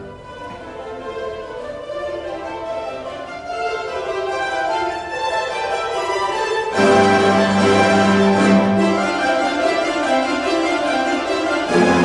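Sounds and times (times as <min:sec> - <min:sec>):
mandolin orchestra playing: 0:00.0 - 0:12.0.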